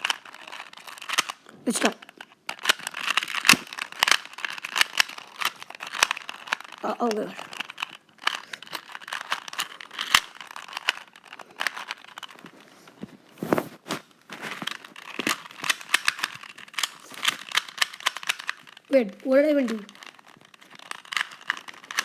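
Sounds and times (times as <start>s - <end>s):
puzzle cube clicking: 0.0s - 22.0s.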